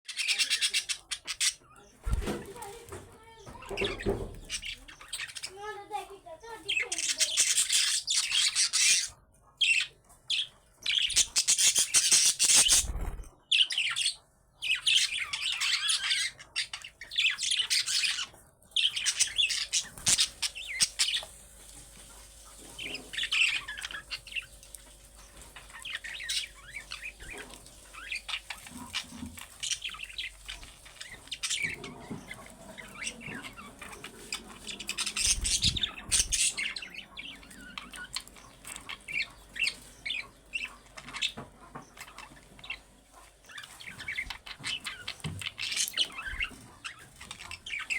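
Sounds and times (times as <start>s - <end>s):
budgerigars chirping and squawking: 0.0s - 47.9s.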